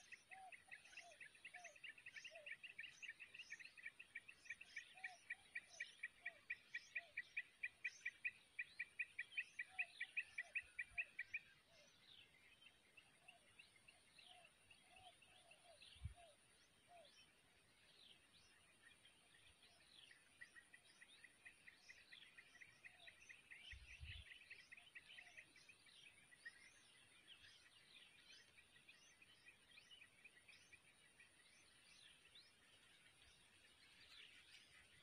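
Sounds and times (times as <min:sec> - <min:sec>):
small birds twittering: 0:00.0 - 0:35.0.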